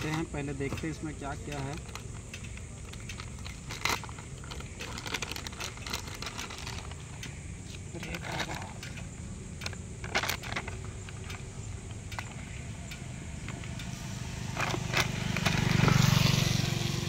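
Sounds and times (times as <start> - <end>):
plastic packaging crinkling: 0.0 - 9.0, 9.6 - 12.6, 13.5 - 16.4
vehicle engine hum: 0.0 - 17.0.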